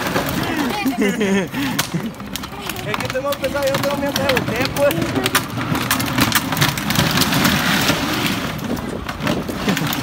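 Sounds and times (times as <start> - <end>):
plastic wheels rolling over asphalt: 0.0 - 10.0.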